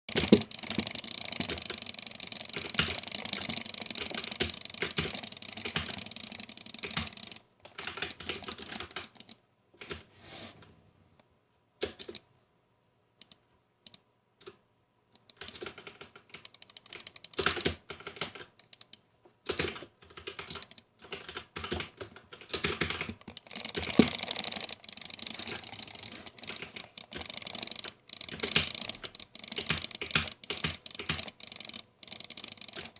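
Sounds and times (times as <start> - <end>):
rapid irregular clicking: 0.0 - 10.0, 11.8 - 12.2, 15.2 - 32.9.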